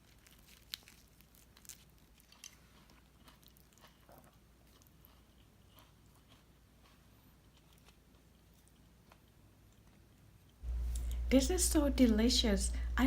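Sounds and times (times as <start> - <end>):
faint chewing crunches: 0.0 - 11.3.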